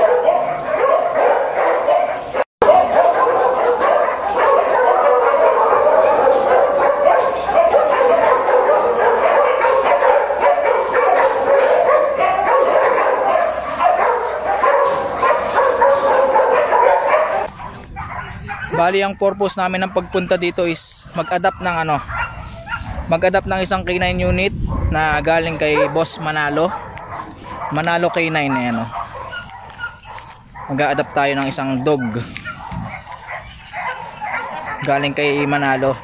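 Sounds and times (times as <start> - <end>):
many dogs barking: 0.0 - 36.0.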